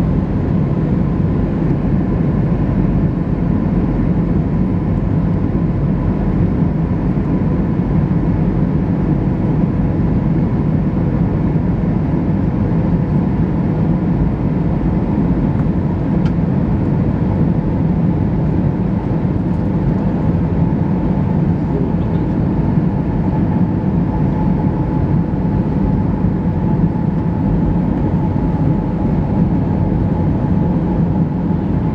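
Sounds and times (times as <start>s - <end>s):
airliner cabin rumble and hiss: 0.0s - 31.9s.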